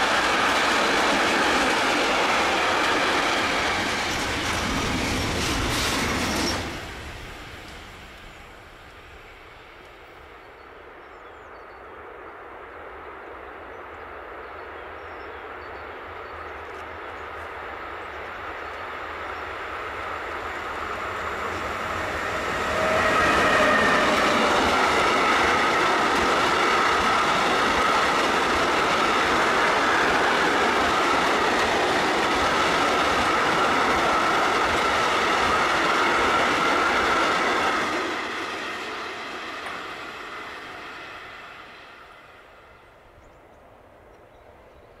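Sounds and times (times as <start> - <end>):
freight train rumbling: 0.0 - 45.0.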